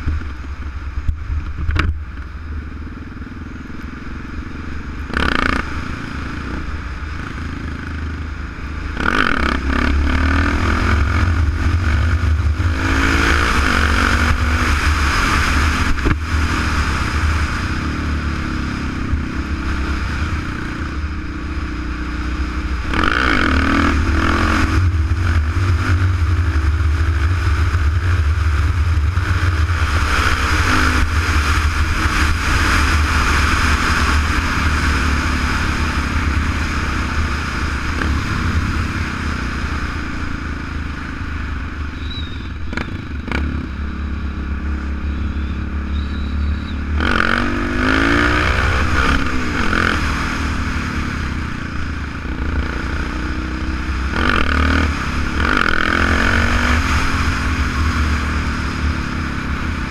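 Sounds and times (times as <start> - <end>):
low wind rumble: 0.0 - 59.9
motorcycle engine running: 0.0 - 59.9.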